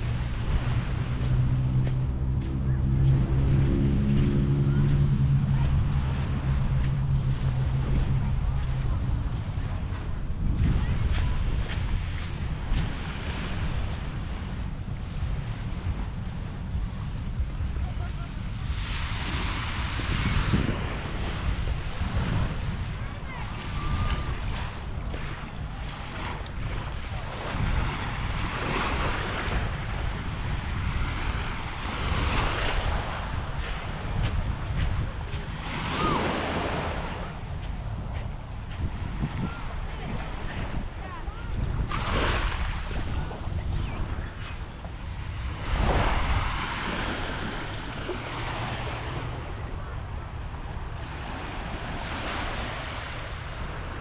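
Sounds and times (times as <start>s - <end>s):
small waves on sandy beach: 0.0s - 54.0s
wind buffeting microphone: 0.0s - 54.0s.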